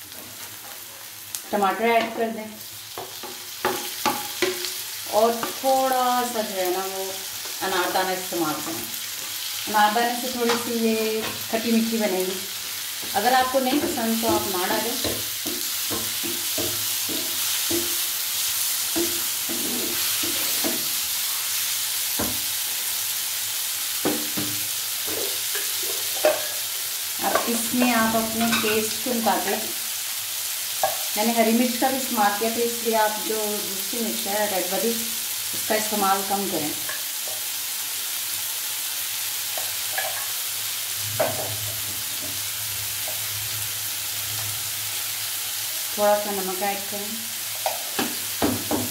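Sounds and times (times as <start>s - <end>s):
vegetables sizzling in oil: 0.0s - 48.9s.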